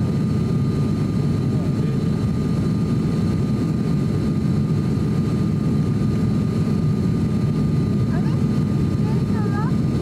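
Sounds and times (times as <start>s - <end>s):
low drone of propeller engines: 0.0s - 10.0s
thin steady whine: 0.0s - 10.0s.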